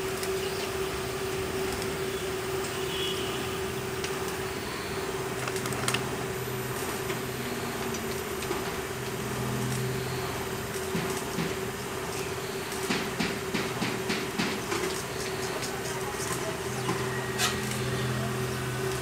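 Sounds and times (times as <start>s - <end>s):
steady motor hum: 0.0s - 19.0s.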